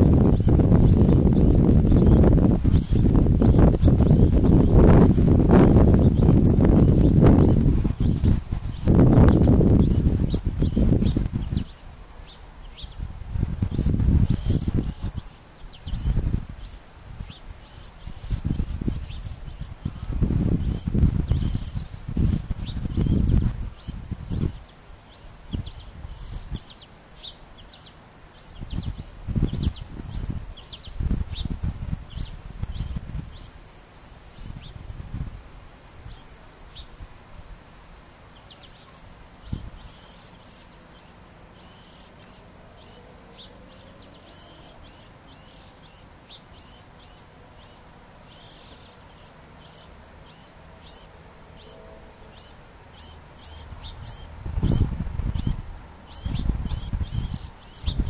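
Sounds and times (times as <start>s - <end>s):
small birds chirping: 0.0s - 33.6s, 34.2s - 37.0s, 38.2s - 58.0s.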